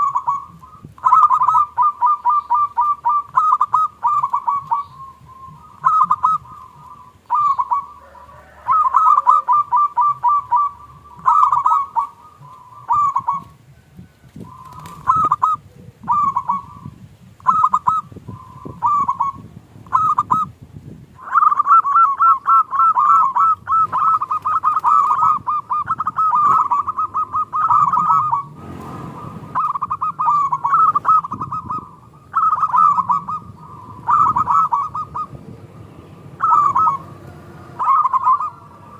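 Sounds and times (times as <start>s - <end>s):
dove cooing: 0.0s - 20.6s, 21.2s - 38.9s.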